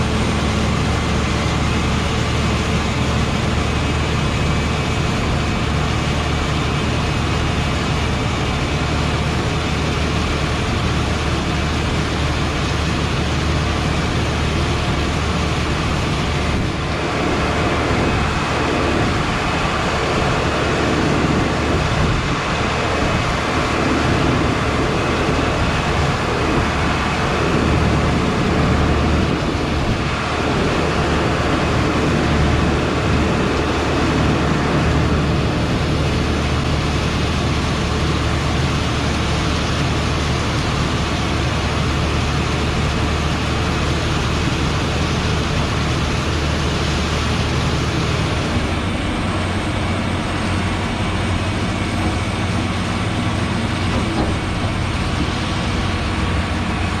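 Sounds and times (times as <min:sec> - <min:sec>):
harvest machinery engine drone: 0:00.0 - 0:57.0.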